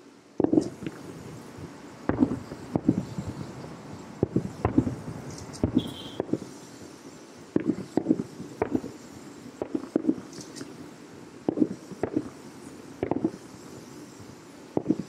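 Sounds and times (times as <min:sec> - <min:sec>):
distant fireworks booms: 0:00.4 - 0:10.6, 0:11.4 - 0:13.8, 0:14.7 - 0:15.0.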